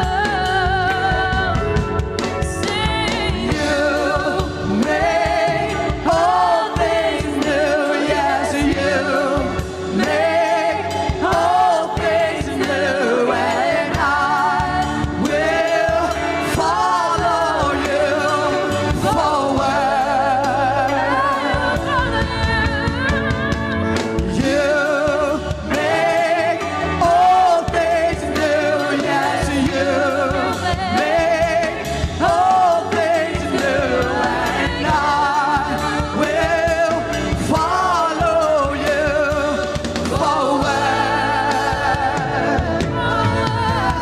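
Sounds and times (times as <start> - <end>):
band with drums: 0.0 - 44.0
singers holding long notes: 2.4 - 44.0.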